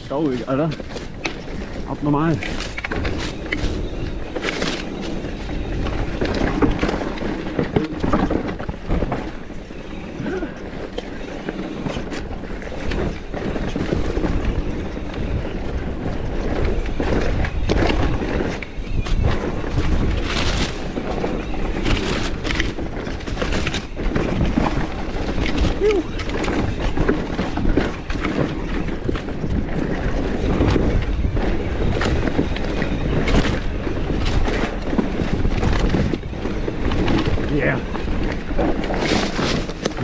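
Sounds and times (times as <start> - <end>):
bike rattling and knocking: 0.0 - 40.0
tyres crunching on dirt: 0.0 - 40.0.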